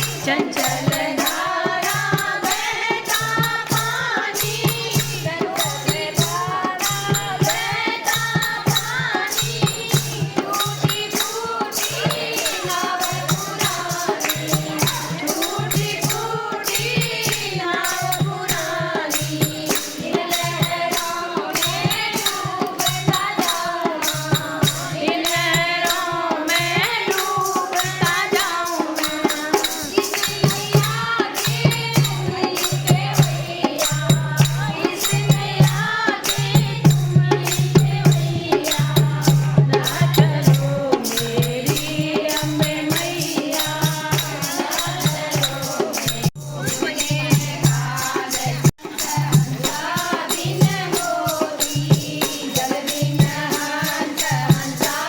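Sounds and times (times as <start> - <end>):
jingling hand percussion: 0.0 - 55.0
person singing devotional song: 0.0 - 55.0.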